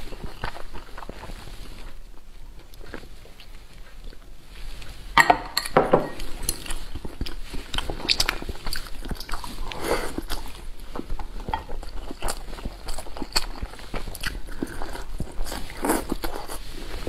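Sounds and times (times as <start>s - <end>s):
wet chewing: 0.0s - 5.0s, 5.6s - 17.0s.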